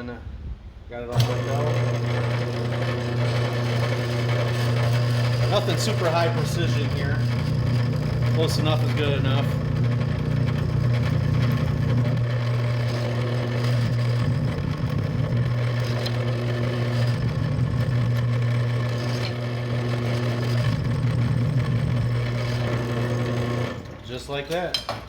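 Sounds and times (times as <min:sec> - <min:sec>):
electric drill drilling metal: 0:01.1 - 0:24.7.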